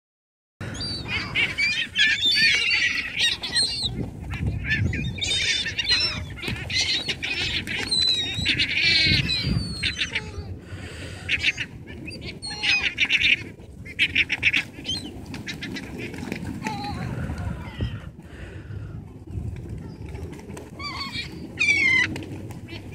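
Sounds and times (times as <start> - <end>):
gulls calling: 0.6 - 18.2, 19.9 - 22.9
wings flapping: 1.2 - 10.1, 11.9 - 18.0, 19.3 - 22.9.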